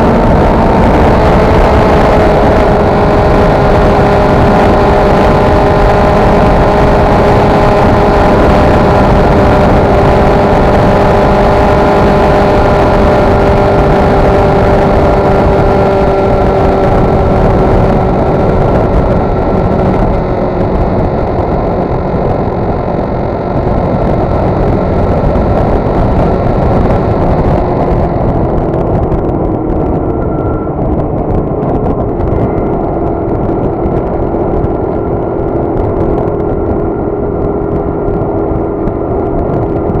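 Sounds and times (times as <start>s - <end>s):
motorcycle engine running: 0.0s - 40.0s
wind rushing over camera: 0.0s - 40.0s.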